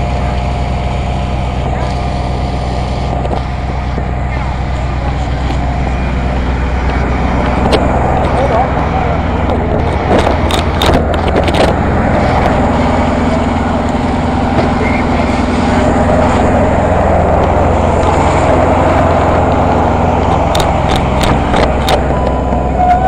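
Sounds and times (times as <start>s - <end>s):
fire engine running: 0.0s - 23.0s.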